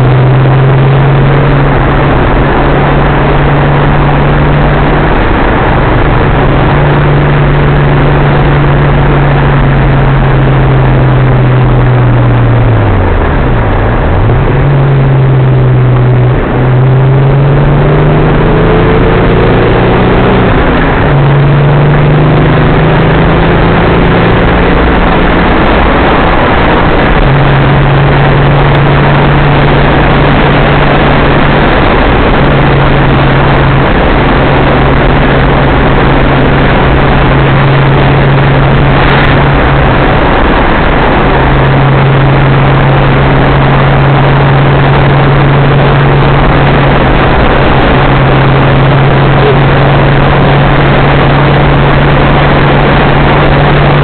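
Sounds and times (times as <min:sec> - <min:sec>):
car engine drone: 0:00.0 - 0:54.0
road and wind noise: 0:00.0 - 0:54.0.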